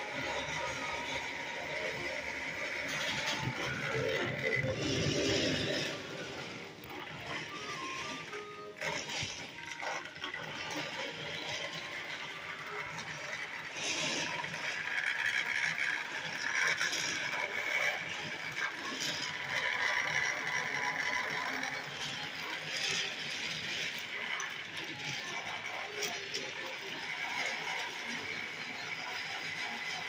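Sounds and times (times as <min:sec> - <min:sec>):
toy train gear whir: 0:00.0 - 0:30.0.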